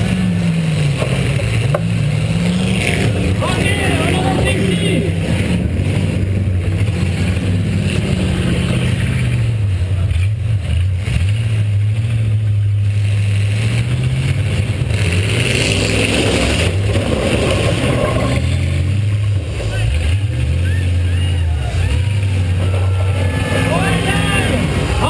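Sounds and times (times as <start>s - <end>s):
car engine revving under load: 0.0s - 25.0s.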